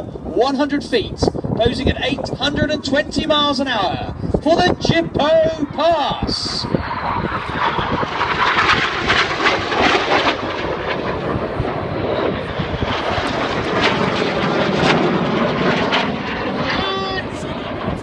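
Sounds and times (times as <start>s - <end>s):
jet roar: 0.0s - 18.0s.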